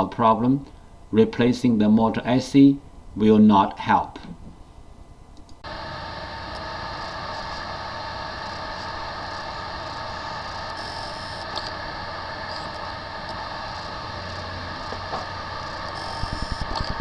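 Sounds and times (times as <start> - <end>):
machine whirring with low hum: 0.0 - 17.0.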